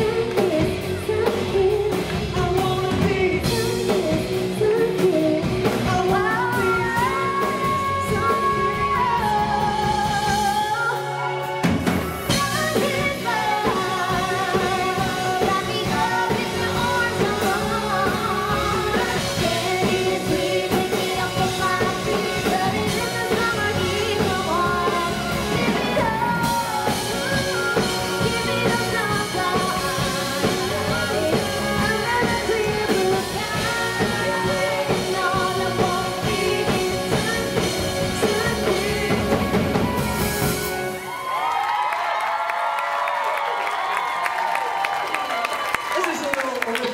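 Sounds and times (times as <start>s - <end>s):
bass guitar: 0.0s - 41.2s
woman singing lead: 0.0s - 41.3s
drum kit: 0.0s - 41.8s.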